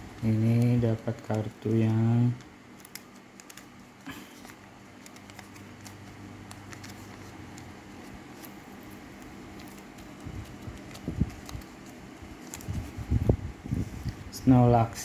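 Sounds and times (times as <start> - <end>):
plastic card packet crinkling: 0.1 - 14.4.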